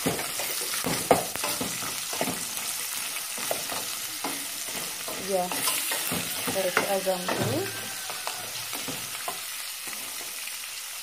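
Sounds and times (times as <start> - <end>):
utensil scraping and knocking pot: 0.0 - 10.4
meat sizzling in oil: 0.0 - 11.0.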